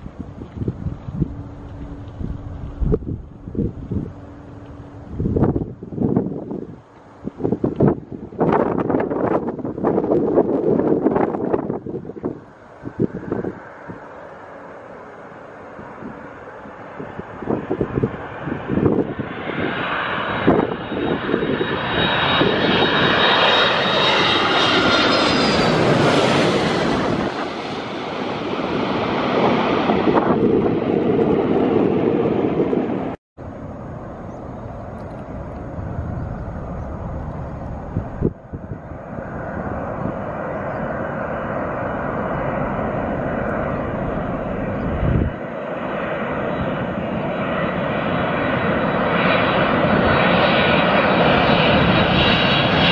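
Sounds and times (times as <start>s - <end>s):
jet airliner flying overhead: 0.0s - 52.9s.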